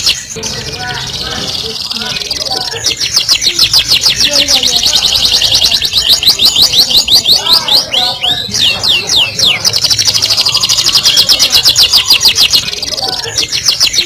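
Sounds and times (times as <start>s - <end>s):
canary singing rattling trills: 0.0s - 14.0s.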